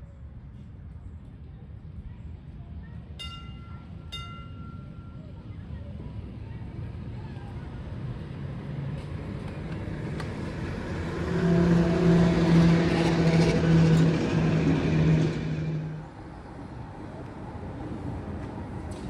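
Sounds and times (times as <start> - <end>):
outdoor background noise: 0.0 - 19.0
electric tram drive hum: 0.1 - 19.0
wheels rumbling on rails: 0.1 - 19.0.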